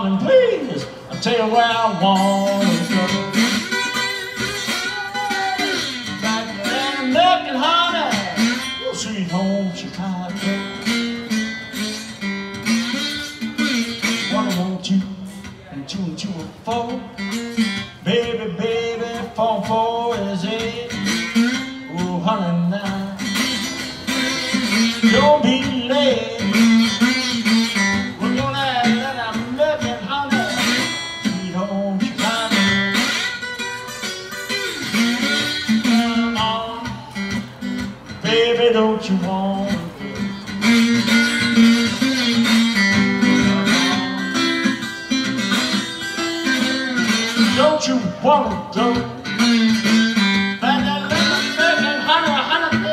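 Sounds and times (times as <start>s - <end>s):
blues guitar: 0.0s - 52.9s
man singing: 0.0s - 52.9s.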